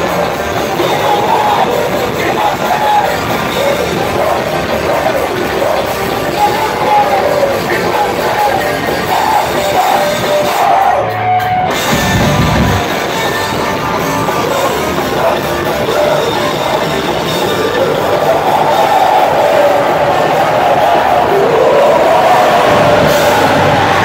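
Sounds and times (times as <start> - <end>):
drum kit: 0.0 - 21.6
bass guitar: 0.0 - 24.0
electric guitars: 0.0 - 24.0
person singing: 0.0 - 24.0.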